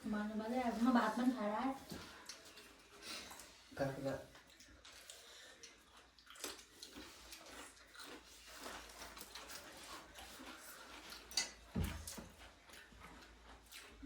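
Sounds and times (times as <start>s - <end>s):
mouth chewing food: 0.7s - 14.0s.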